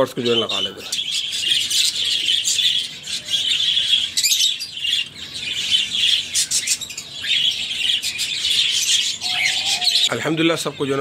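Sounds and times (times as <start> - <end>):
parrots chirping and chattering: 0.0 - 11.0.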